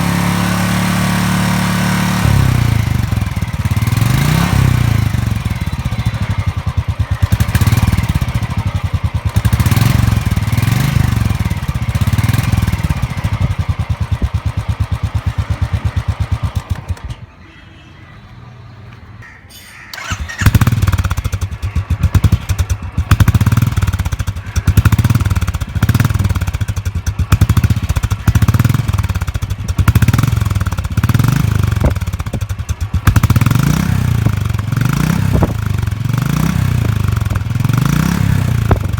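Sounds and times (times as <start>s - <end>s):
motorcycle engine revving: 0.0s - 17.3s, 19.9s - 38.9s.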